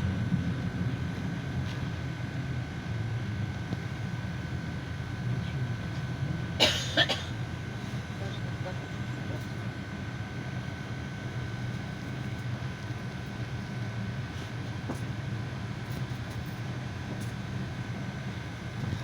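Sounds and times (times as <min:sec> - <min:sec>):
engine and road rumble: 0:00.0 - 0:19.0
faint constant whine: 0:00.0 - 0:19.0.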